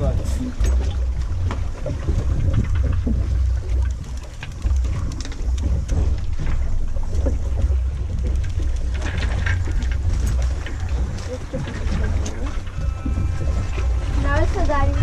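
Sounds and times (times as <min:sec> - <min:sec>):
water splashes: 0:00.0 - 0:15.0
wind buffeting microphone: 0:00.0 - 0:15.0.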